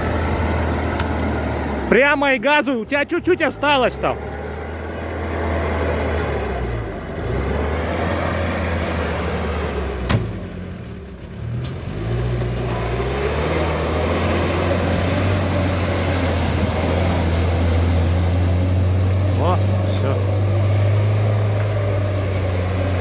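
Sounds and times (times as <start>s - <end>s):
van engine revving under load: 0.0s - 23.0s.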